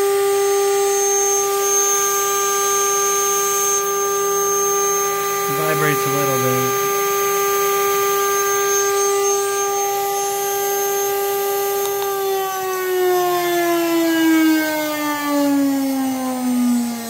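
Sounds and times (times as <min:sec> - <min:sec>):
spindle motor whine: 0:00.0 - 0:17.0.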